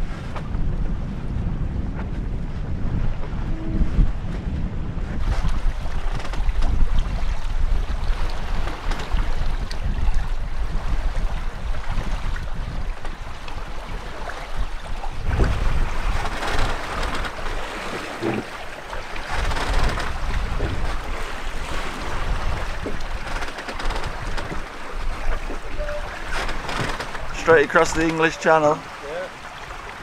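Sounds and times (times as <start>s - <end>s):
wind buffeting microphone: 0.0s - 30.0s
water splashing against hulls: 1.9s - 30.0s.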